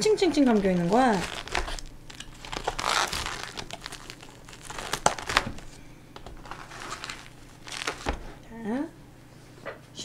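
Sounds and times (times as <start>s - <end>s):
plastic cling wrap crinkling: 0.0s - 8.5s.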